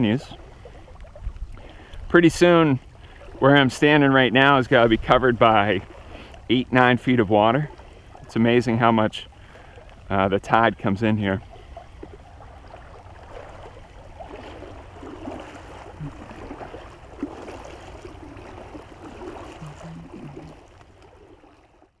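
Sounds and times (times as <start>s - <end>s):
underwater current rushing and gurgling: 0.0s - 22.0s.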